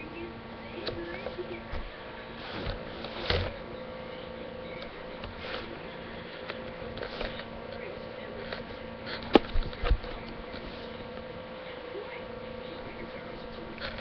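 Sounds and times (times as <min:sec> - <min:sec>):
low electrical buzzing hum: 0:00.0 - 0:14.0.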